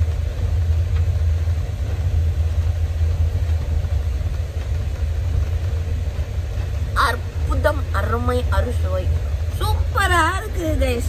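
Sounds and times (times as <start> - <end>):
train rumble inside coach: 0.0 - 11.0.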